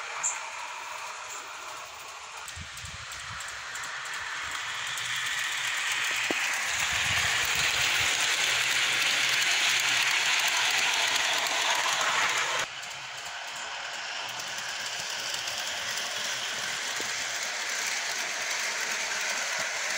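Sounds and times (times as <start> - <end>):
model train wheels clattering: 0.0 - 19.9.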